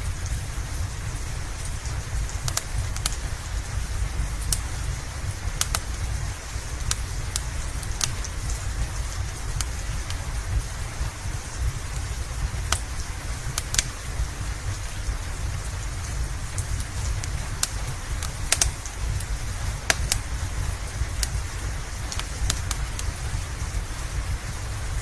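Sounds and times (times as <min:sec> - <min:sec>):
steady rain: 0:00.0 - 0:25.0
wood fire popping and crackling: 0:00.0 - 0:25.0.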